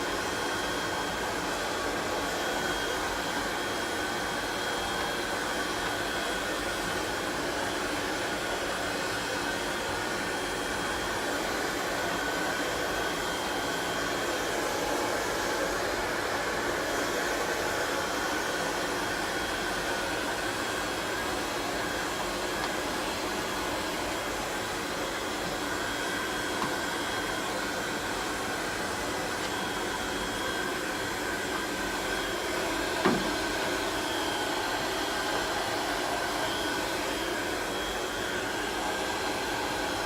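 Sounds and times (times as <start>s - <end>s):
heat gun blowing air: 0.0s - 40.0s.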